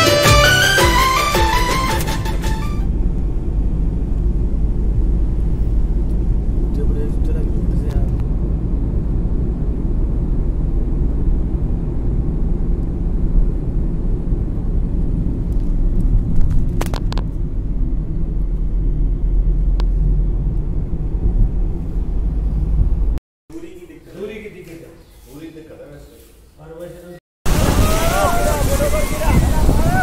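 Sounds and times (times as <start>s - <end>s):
road and engine rumble: 0.0s - 30.0s.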